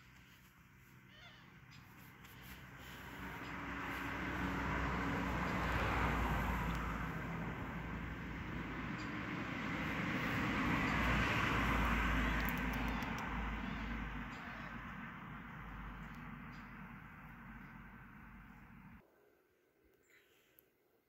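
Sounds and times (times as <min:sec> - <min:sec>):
passing traffic rushing: 0:00.0 - 0:19.0.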